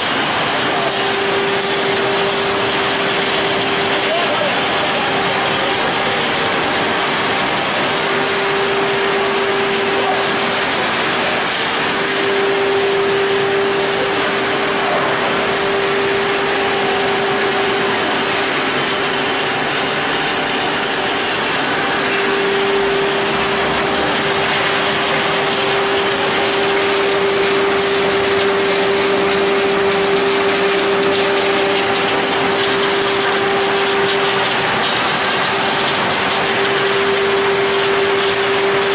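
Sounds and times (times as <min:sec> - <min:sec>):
constant machine hum: 0:00.0 - 0:38.9
loud steady machine noise: 0:00.0 - 0:38.9.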